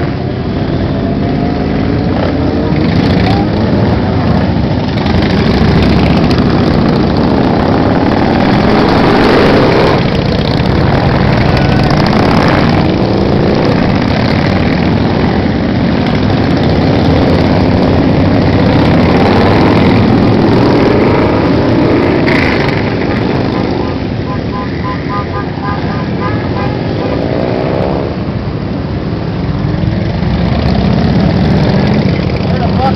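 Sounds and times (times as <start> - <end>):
motorcycle engines rumbling: 0.0 - 32.9.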